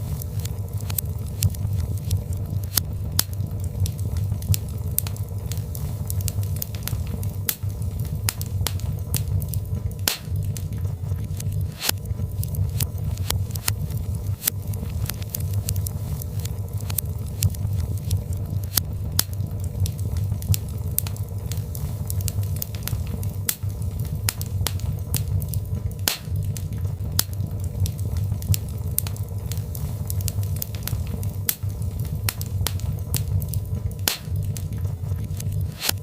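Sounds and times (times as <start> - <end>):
log fire crackling: 0.0 - 36.0
low rumble of flames: 0.0 - 36.0.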